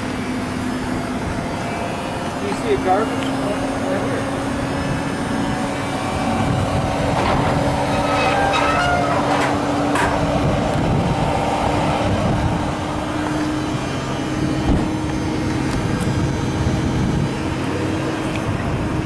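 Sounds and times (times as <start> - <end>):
constant hum: 0.0 - 19.0
vehicle rumble: 0.0 - 19.0.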